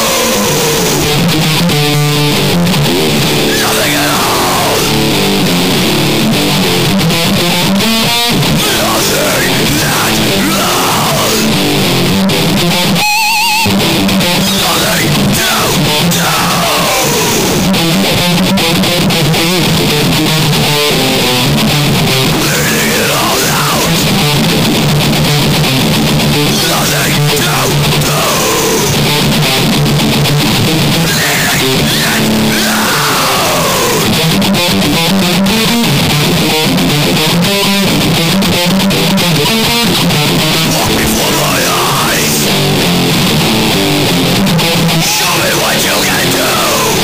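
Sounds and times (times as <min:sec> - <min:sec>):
heavy metal music: 0:00.0 - 0:47.0.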